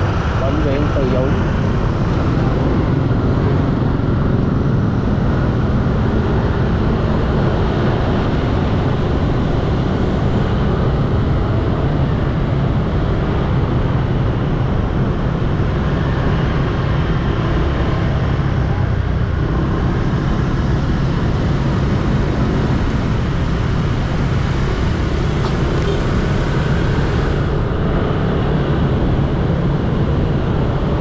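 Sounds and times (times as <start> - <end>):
motor scooter traffic drone: 0.0 - 31.0
road noise and wind: 0.0 - 31.0.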